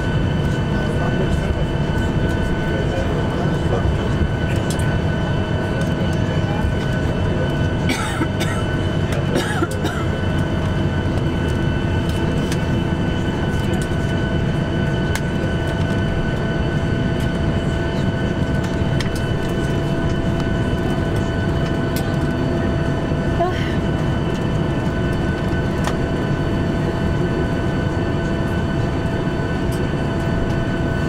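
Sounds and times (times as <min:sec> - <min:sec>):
airplane engines idling: 0:00.0 - 0:31.0.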